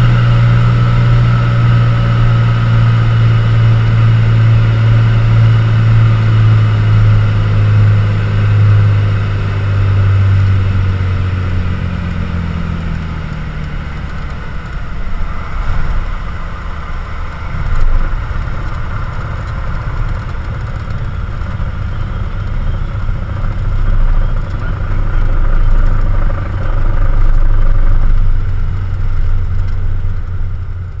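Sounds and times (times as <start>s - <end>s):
aircraft engine droning: 0.0s - 31.0s
wind and wheels rumbling: 0.0s - 31.0s.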